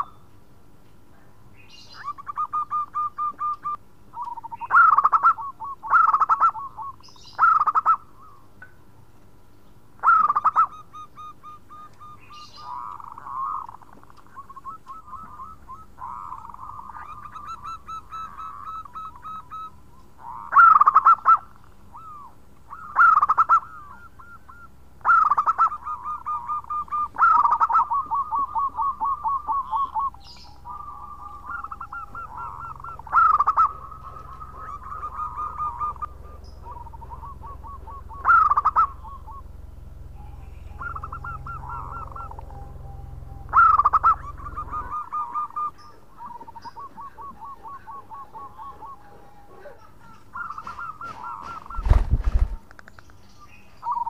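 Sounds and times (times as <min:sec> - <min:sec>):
dove cooing: 0:01.7 - 0:08.5, 0:10.0 - 0:52.7.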